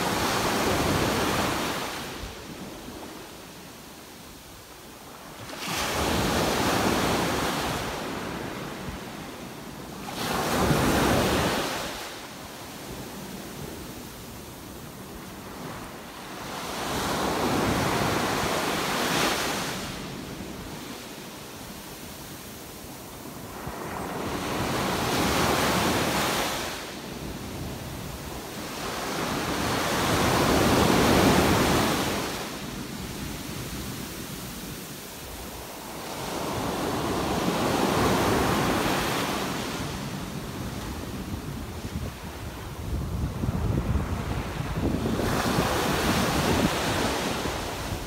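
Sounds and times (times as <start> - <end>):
small waves breaking on beach: 0.0 - 48.0.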